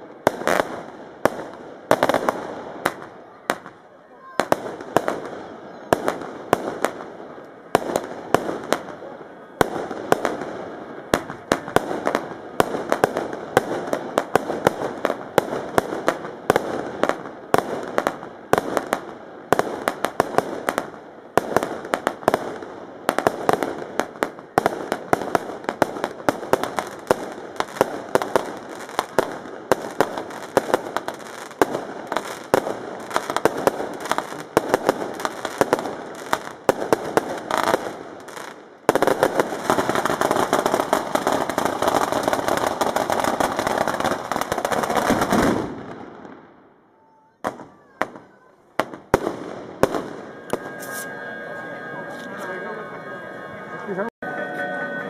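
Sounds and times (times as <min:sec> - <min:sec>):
firecracker bangs: 0:00.0 - 0:46.6, 0:47.4 - 0:52.4
fireworks crackle: 0:00.0 - 0:55.0.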